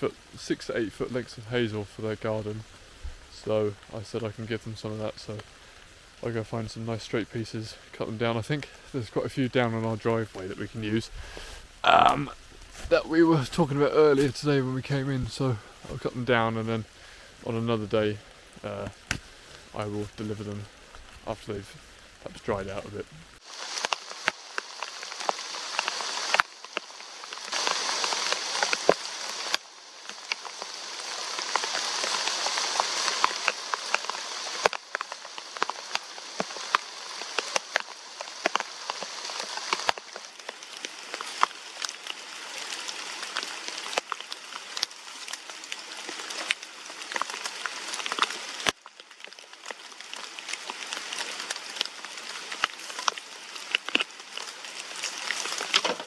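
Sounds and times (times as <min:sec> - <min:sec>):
rain hissing: 0:00.0 - 0:56.0
raindrops dripping close by: 0:00.0 - 0:56.0.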